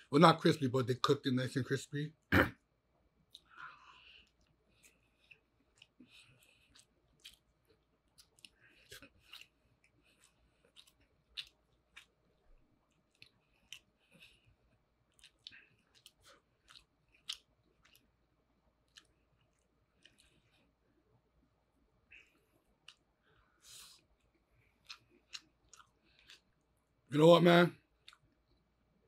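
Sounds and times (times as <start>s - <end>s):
person chewing food: 3.1s - 27.1s, 27.8s - 29.0s.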